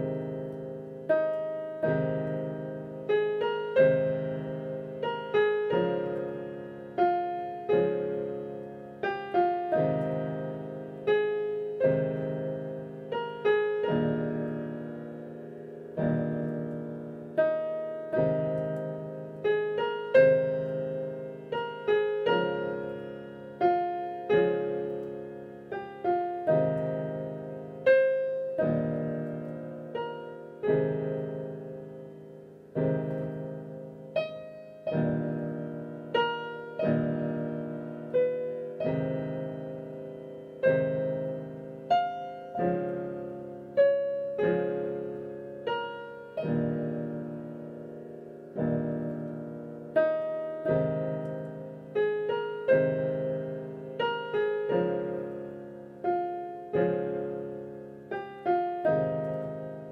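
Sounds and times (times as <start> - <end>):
slow solo piano melody: 0.0 - 59.9.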